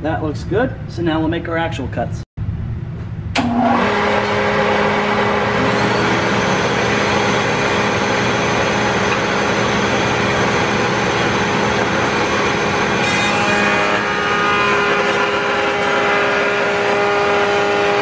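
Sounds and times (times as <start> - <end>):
router motor whine: 3.4 - 18.0.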